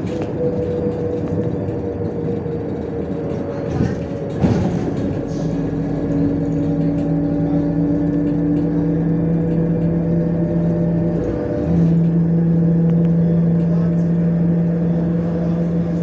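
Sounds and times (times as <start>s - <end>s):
bus engine hum: 0.0s - 16.0s
road rumble: 0.0s - 16.0s.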